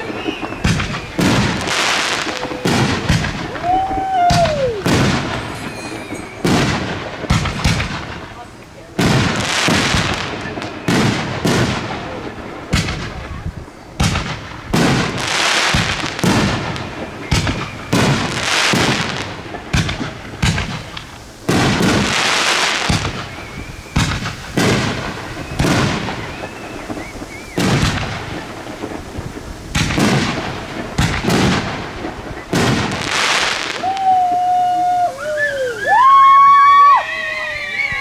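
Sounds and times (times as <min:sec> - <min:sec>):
faint fireworks whistles: 0:00.0 - 0:38.0
fireworks booming: 0:00.0 - 0:38.0
fireworks crackling: 0:00.0 - 0:38.0.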